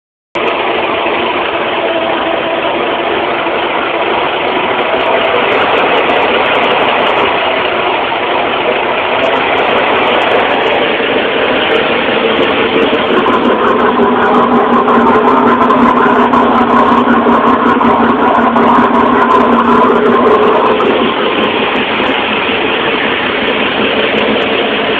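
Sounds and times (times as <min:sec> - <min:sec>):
marine engine running: 0:00.4 - 0:24.9.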